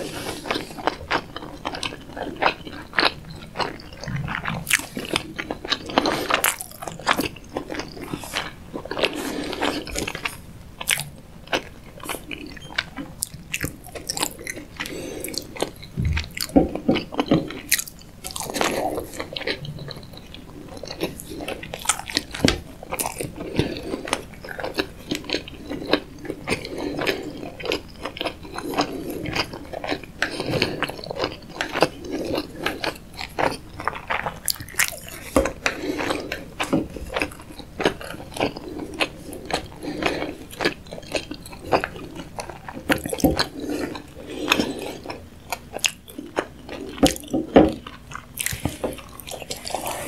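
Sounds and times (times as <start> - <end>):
wet chewing sounds: 0.0 - 50.0.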